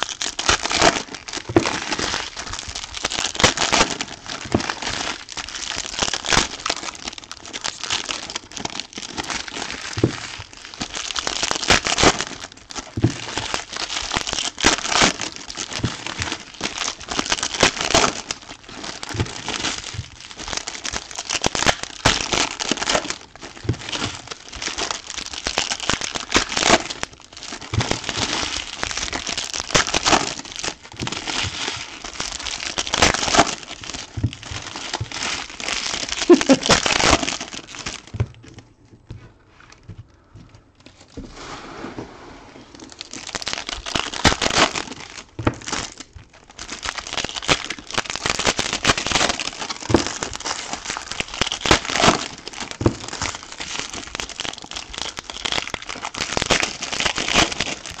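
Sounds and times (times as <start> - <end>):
foil wrappers crinkling: 0.0 - 41.2, 42.7 - 58.0.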